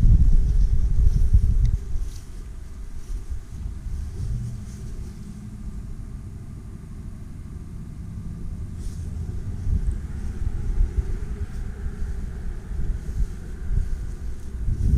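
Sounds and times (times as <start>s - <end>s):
engine exhaust idling: 0.0s - 14.9s.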